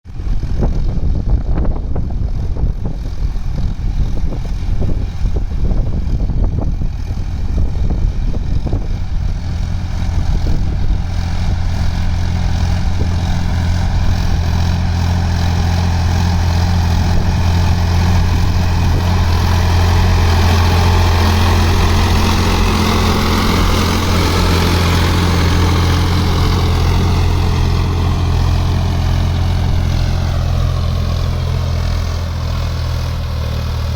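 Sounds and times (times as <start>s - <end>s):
tractor diesel engine droning: 0.1s - 33.9s.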